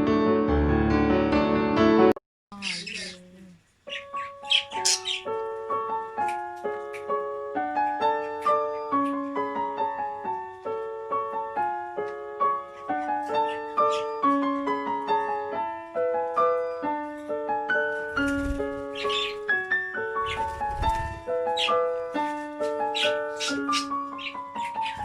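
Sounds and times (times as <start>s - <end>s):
piano melody: 0.0s - 2.2s, 3.9s - 25.0s.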